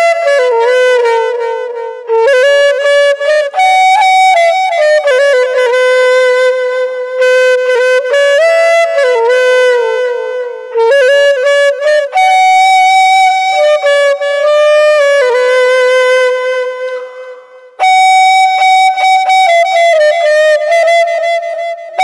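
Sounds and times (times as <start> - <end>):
wind instrument melody: 0.0 - 22.0.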